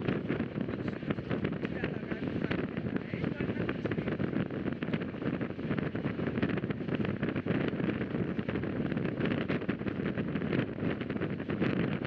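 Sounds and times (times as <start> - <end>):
train rumble and rush: 0.0 - 12.0.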